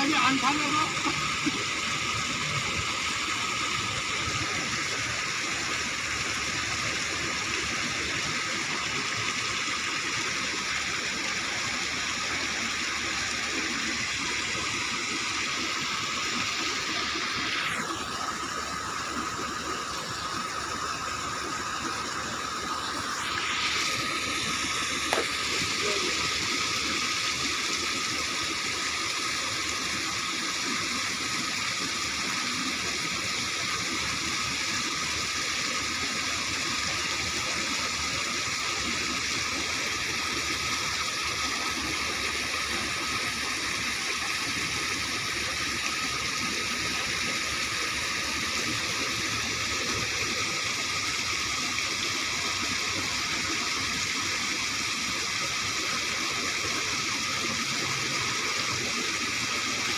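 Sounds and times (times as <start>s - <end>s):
water gushing over concrete: 0.0s - 59.9s.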